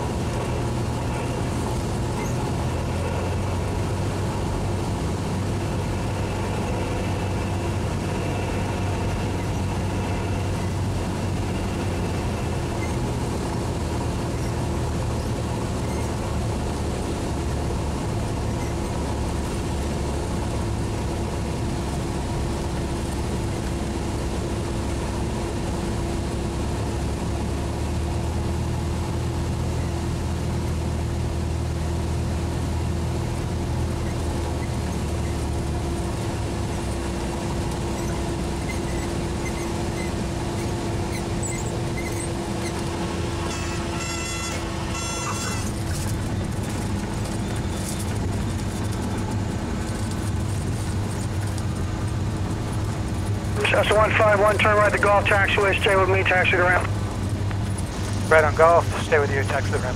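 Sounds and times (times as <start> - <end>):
constant hum: 0.0 - 59.9
light aircraft engine drone: 0.0 - 59.9.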